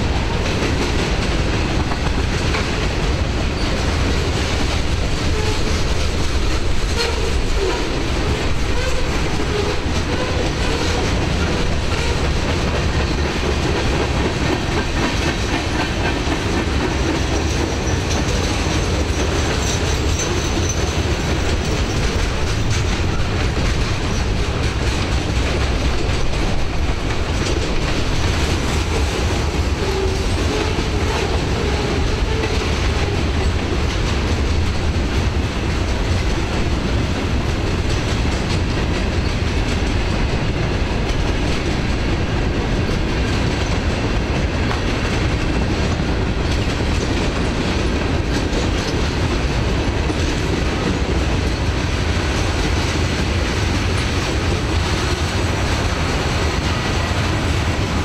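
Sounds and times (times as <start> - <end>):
freight train rolling past: 0.0 - 58.0
steel wheels on rails: 0.0 - 58.0.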